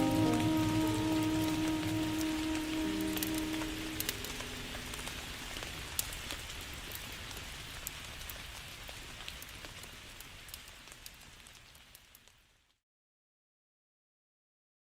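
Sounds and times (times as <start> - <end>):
rain hissing: 0.0 - 12.5
raindrops ticking: 0.0 - 12.5.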